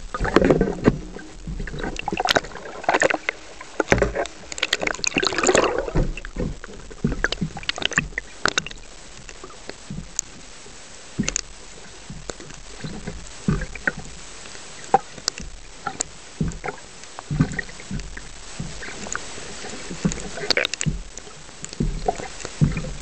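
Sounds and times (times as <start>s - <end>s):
clicks and soft knocks: 0.0s - 10.4s, 11.2s - 14.2s, 14.9s - 23.0s
muffled underwater water wash: 0.0s - 23.0s.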